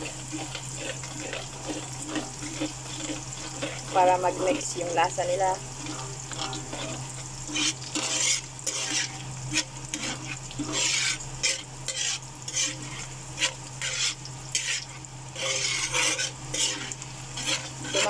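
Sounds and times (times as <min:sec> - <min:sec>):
food sizzling in hot oil: 0:00.0 - 0:18.0
metal ladle scraping a wok: 0:00.0 - 0:18.0.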